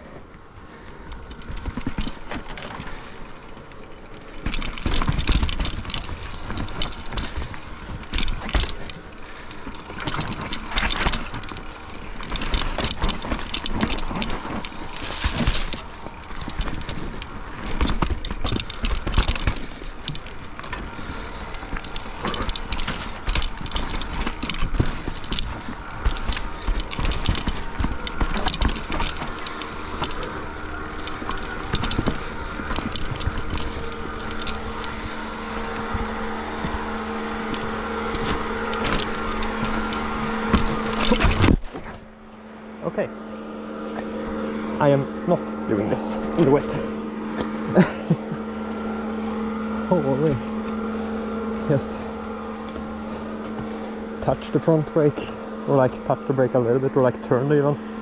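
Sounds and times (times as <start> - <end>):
mountain bike rattling over trail: 0.0 - 58.0.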